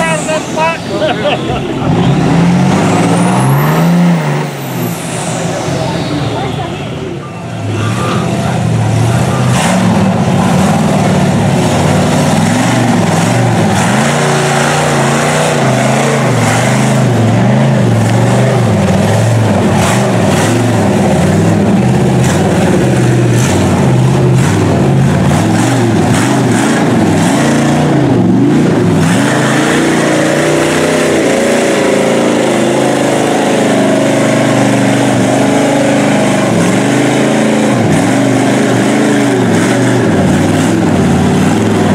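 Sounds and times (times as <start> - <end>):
truck engines revving: 0.0 - 41.9.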